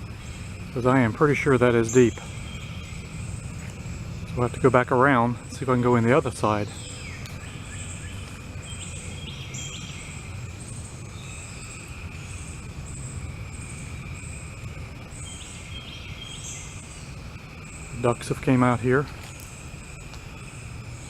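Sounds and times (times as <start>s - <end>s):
high insect drone: 0.0s - 21.0s
insects pulsing trills: 0.0s - 21.0s.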